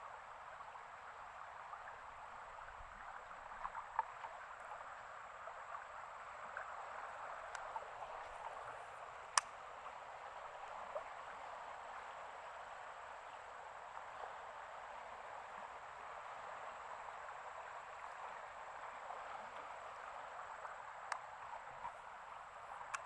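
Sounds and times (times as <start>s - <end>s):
faint flowing water: 0.0s - 23.0s.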